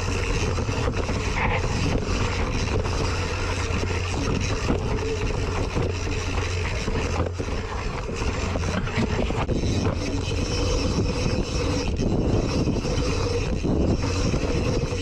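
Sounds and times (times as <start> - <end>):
tyre roar on dirt trail: 0.0 - 15.0
wind buffeting microphone: 0.0 - 15.0.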